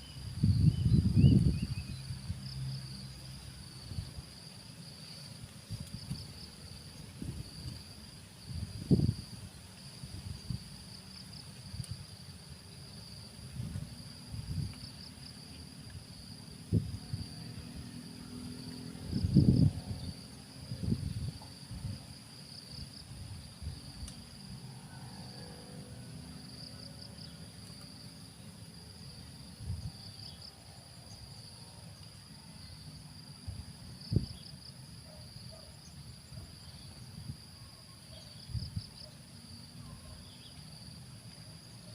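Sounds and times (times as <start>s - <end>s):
insect chirring: 0.0s - 41.9s.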